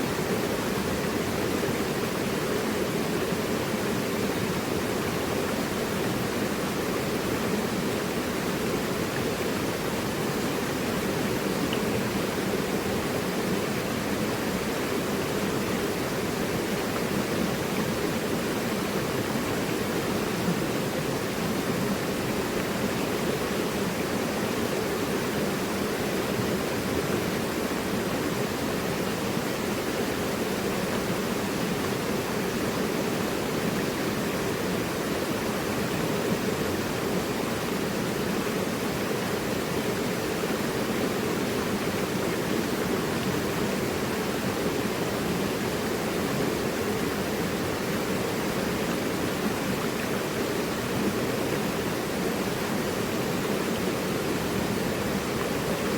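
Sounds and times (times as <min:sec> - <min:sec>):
river rushing over rocks: 0:00.0 - 0:55.9.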